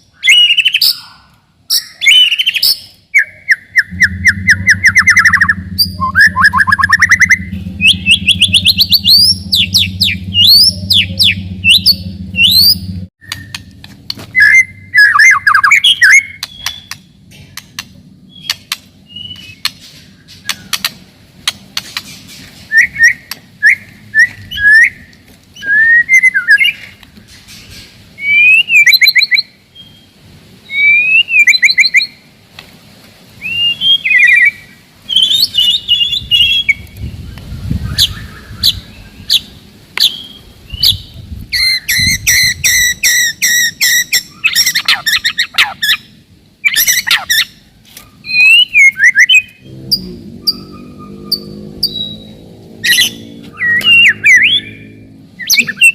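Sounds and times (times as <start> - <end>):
songbird singing: 0.0 - 32.4, 33.4 - 55.9.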